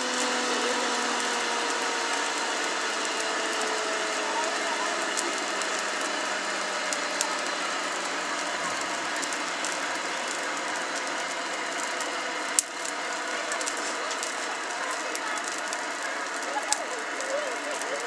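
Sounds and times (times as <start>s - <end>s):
fire crackles: 0.0s - 18.0s
forge fire rushing: 0.0s - 18.0s.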